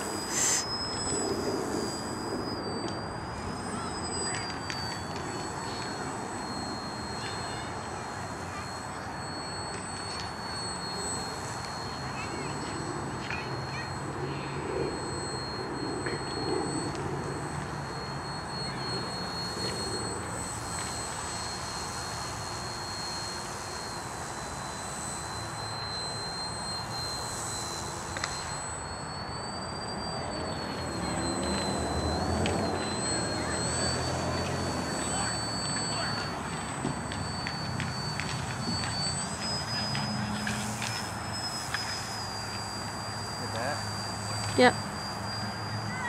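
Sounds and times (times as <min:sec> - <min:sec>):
model plane electric motor whining: 0:00.0 - 0:46.0.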